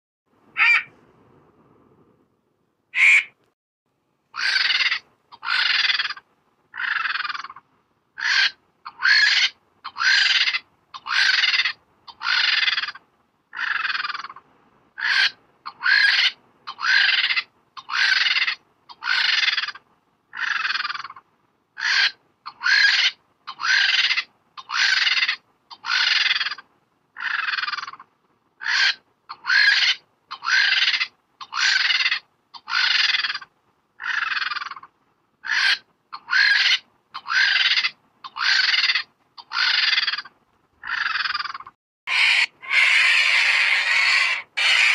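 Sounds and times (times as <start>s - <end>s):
vulture calling: 0.6s - 0.9s, 3.0s - 3.4s, 4.4s - 7.6s, 8.2s - 14.4s, 15.0s - 21.2s, 21.8s - 26.6s, 27.2s - 44.9s.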